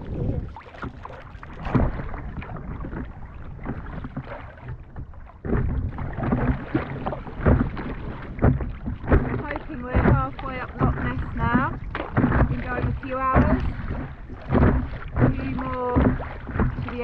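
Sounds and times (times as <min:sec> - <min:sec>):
paddle strokes splashing water: 0:00.0 - 0:17.0
water sloshing against board: 0:00.0 - 0:17.0
wind rumble on microphone: 0:00.0 - 0:17.0.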